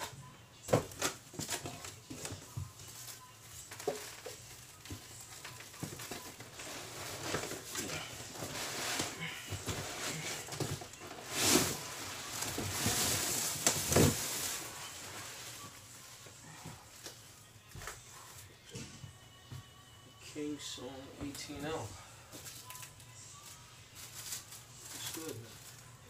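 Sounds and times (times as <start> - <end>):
cardboard and plastic rustling: 0.0 - 17.2, 21.2 - 26.0.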